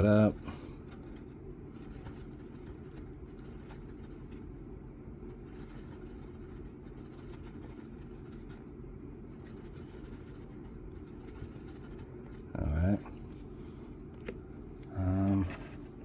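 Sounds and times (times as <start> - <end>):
epoxy being stirred: 0.0 - 16.0
low background hum: 0.0 - 16.0.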